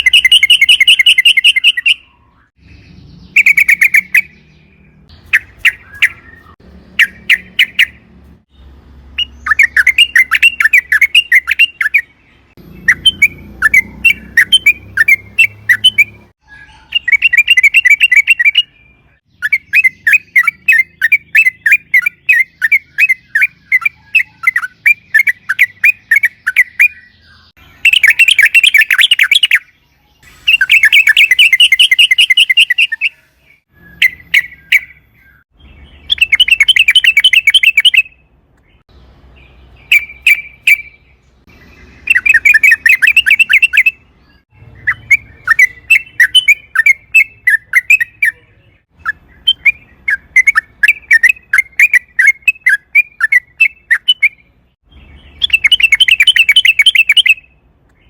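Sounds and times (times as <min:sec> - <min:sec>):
bird singing bubbling chatter: 0:00.0 - 0:58.0.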